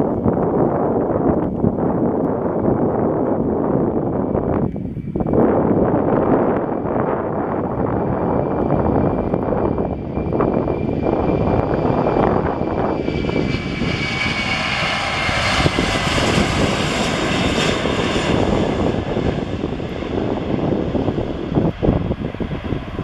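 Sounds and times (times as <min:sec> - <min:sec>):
jet engine whine and rumble: 0:00.0 - 0:23.0
wind buffeting microphone: 0:00.0 - 0:23.0.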